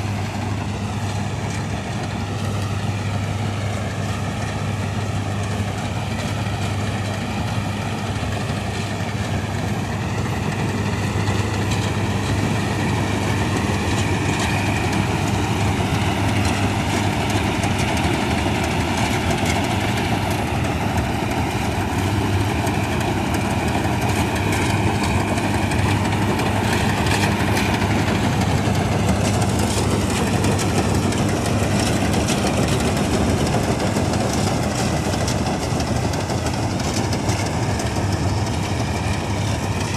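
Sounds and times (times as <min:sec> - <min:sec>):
combine harvester engine hum: 0:00.0 - 0:39.9
machinery clatter and hiss: 0:00.0 - 0:39.9.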